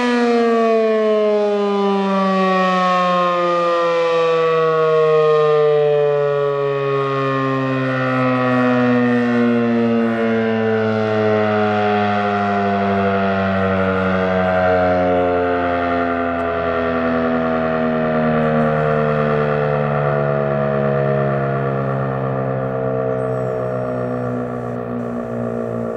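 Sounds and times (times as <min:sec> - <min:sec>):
siren winding down: 0:00.0 - 0:25.9.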